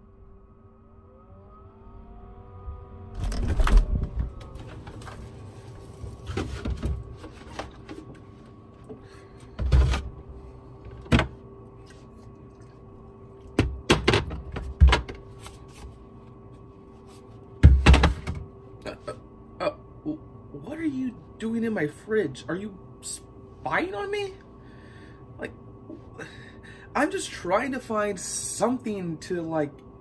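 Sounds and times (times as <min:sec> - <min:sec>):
refrigerator hum: 0:00.0 - 0:30.0.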